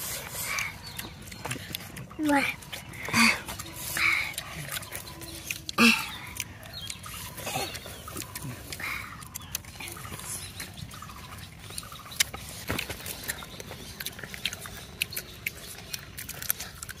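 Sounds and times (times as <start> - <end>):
child chewing and eating by hand: 0.0 - 17.0
faint low background hum: 0.0 - 17.0.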